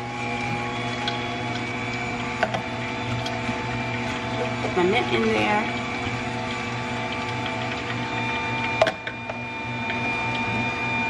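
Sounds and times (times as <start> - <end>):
juicer motor hum: 0.0 - 11.0.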